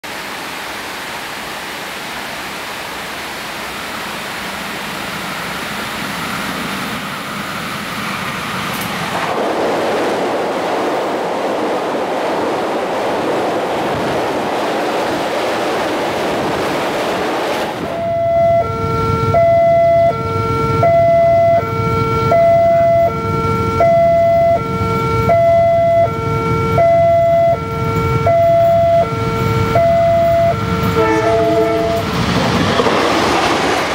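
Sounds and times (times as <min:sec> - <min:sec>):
passenger train passing: 0:00.1 - 0:33.9.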